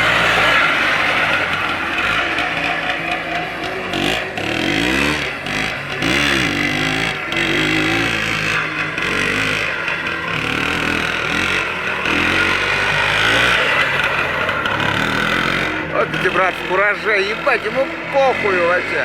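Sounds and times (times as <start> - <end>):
two-stroke engine revving: 0.0 - 19.0.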